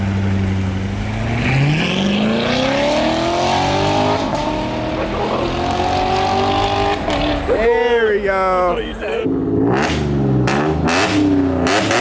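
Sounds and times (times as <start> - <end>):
car engine accelerating: 0.0 - 7.7, 9.2 - 12.0.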